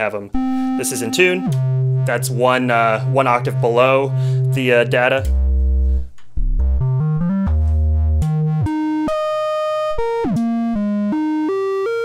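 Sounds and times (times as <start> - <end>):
analog synthesizer notes: 0.3 - 12.0.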